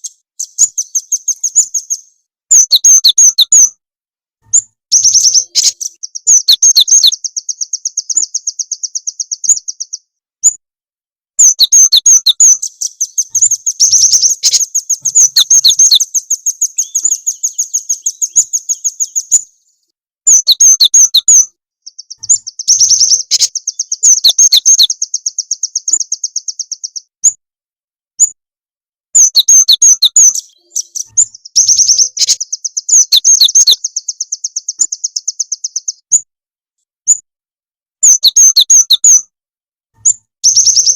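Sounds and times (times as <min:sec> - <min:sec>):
songbird fast trills: 0:00.0 - 0:03.7, 0:04.5 - 0:10.6, 0:11.4 - 0:19.6, 0:20.3 - 0:27.4, 0:29.2 - 0:36.2, 0:38.0 - 0:39.2, 0:40.0 - 0:40.9.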